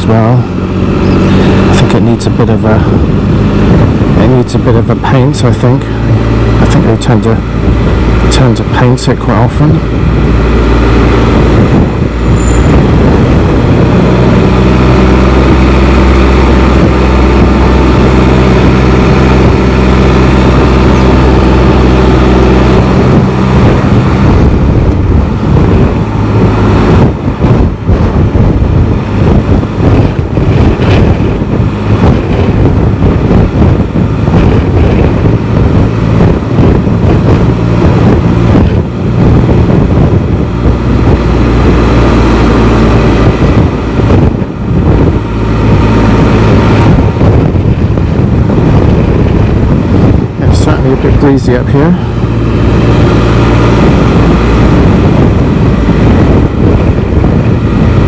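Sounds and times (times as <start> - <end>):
vehicle engine drone: 0.0 - 58.0
wind buffeting microphone: 0.0 - 58.0.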